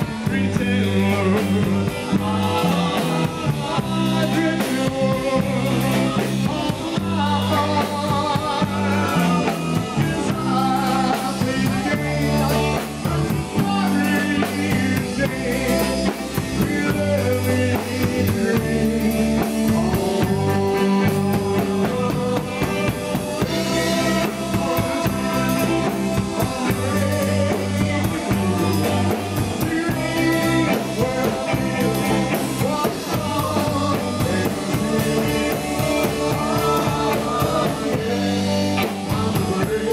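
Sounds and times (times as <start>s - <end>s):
drum kit: 0.0s - 39.9s
electric bass: 0.0s - 39.9s
electric guitar: 0.0s - 39.9s
men singing: 0.0s - 39.9s.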